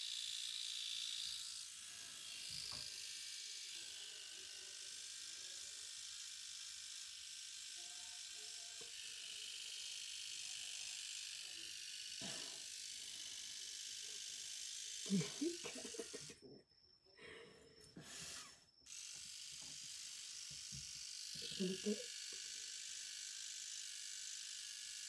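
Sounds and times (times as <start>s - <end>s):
electric hair trimmer buzzing: 0.0s - 16.4s, 18.0s - 25.0s.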